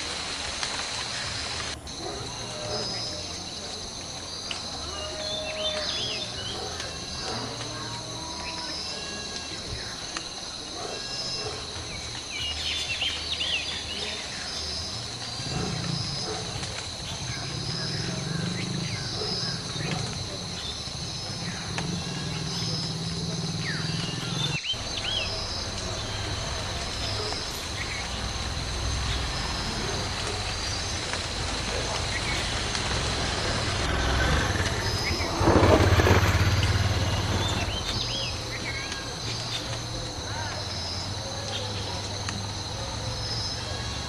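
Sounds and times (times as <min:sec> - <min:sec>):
birds chirping: 0:01.0 - 0:44.0.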